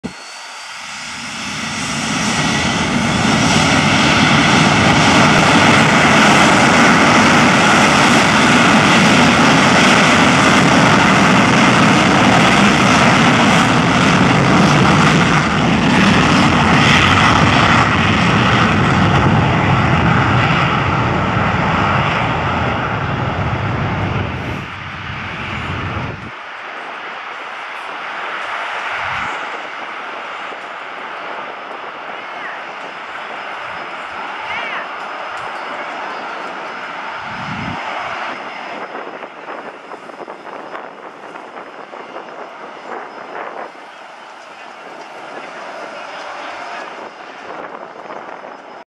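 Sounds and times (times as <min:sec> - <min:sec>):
faint rising engine whine: 0:00.0 - 0:48.8
jet engines roaring: 0:00.0 - 0:48.9.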